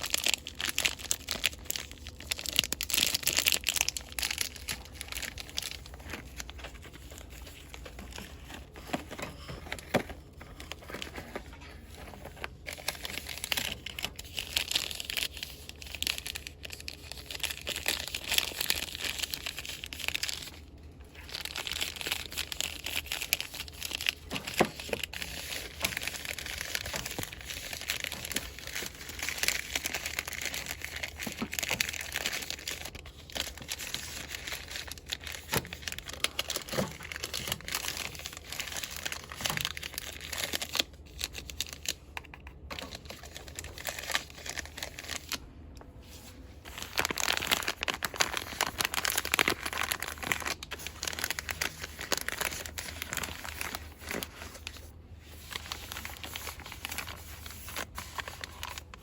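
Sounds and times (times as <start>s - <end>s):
packaging crinkling and rustling: 0.0s - 59.0s.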